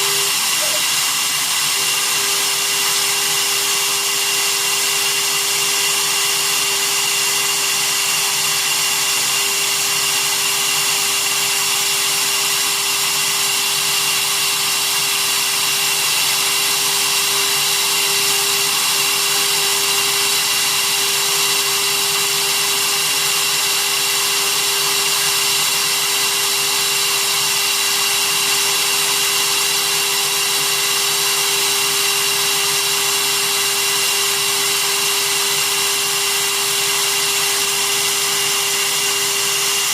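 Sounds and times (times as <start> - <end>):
router spindle motor whine: 0.0 - 39.9.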